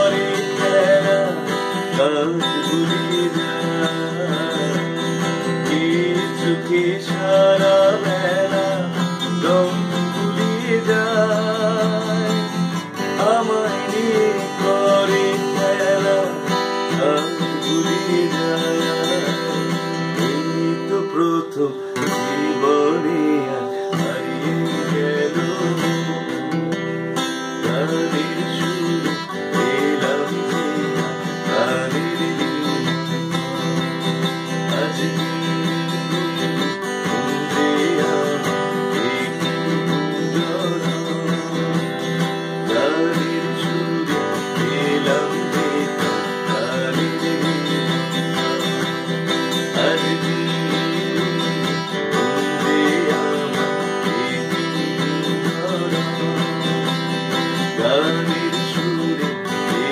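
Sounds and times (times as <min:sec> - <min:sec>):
acoustic guitar: 0:00.0 - 0:59.9
man singing: 0:00.0 - 0:59.9.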